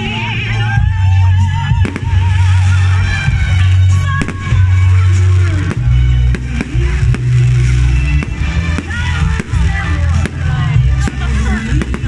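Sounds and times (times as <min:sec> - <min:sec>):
fireworks bangs and crackles: 0:00.0 - 0:12.0
loud music with deep bass: 0:00.0 - 0:12.0.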